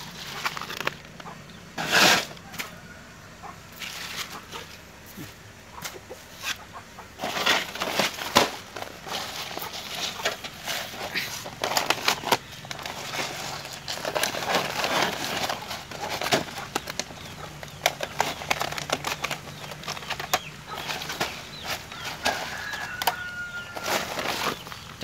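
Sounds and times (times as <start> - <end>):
crackling and rustling: 0.0 - 25.0.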